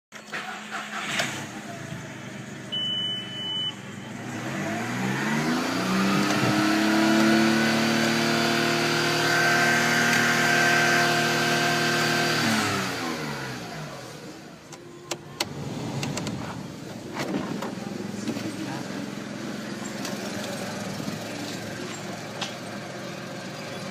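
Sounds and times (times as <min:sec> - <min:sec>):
car engine idling and revving: 0:00.2 - 0:23.9.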